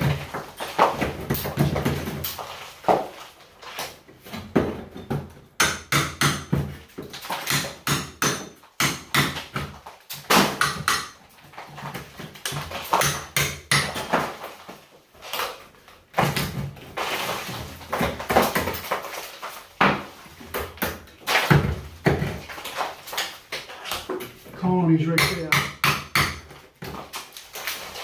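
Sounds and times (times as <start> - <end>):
hand tool breaking cement board: 0.0 - 24.4, 25.1 - 28.0.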